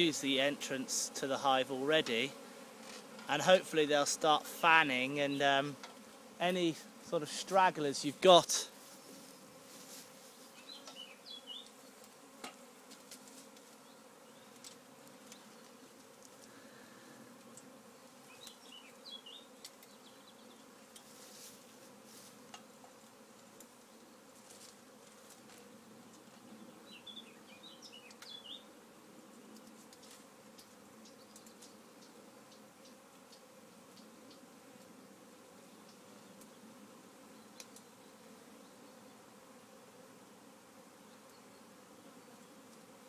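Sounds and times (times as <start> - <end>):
honeybee swarm buzzing: 0.0 - 43.0.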